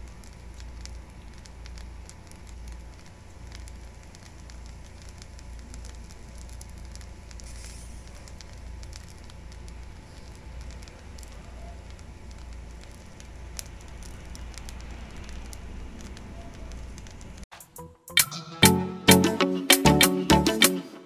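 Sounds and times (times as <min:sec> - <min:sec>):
noodles sizzling in a pan: 0:00.0 - 0:17.4.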